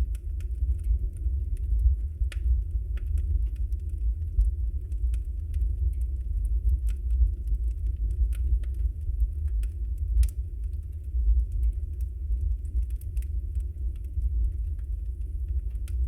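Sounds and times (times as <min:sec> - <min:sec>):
burning wood crackling and popping: 0:00.0 - 0:16.0
flames rumbling: 0:00.0 - 0:16.0.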